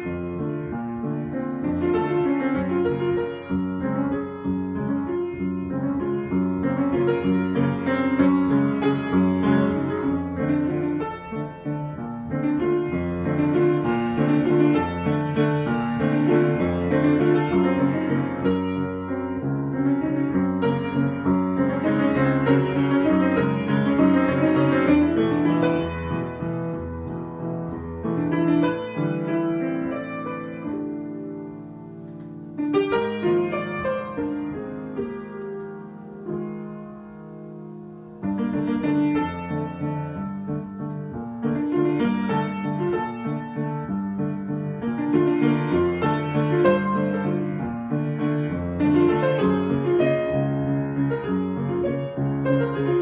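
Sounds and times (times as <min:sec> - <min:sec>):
solo piano improvising: 0:00.0 - 0:53.0.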